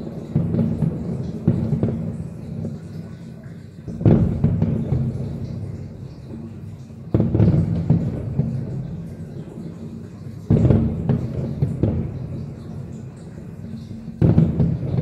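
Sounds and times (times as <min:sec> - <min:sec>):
crackle of small pops: 0:00.0 - 0:15.0
fireworks booming: 0:00.0 - 0:15.0.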